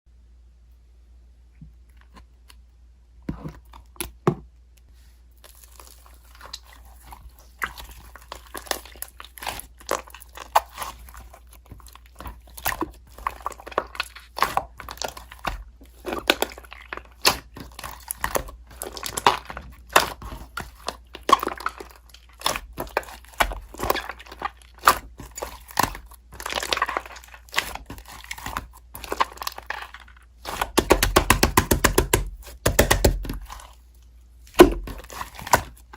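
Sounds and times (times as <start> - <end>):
slime squishing and crackling: 5.3 - 35.9.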